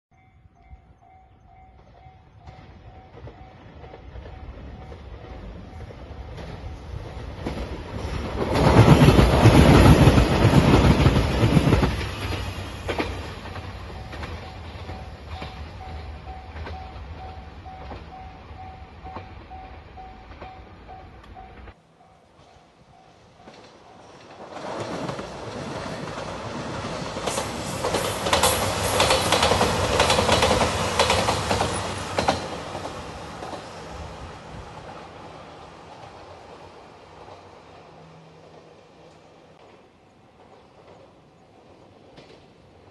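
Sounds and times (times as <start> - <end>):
diesel train passing: 0.1 - 42.9.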